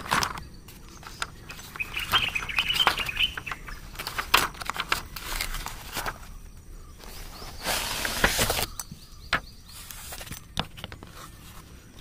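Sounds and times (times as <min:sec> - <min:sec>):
cardboard box rustling and crinkling: 0:00.0 - 0:06.4, 0:07.0 - 0:12.0.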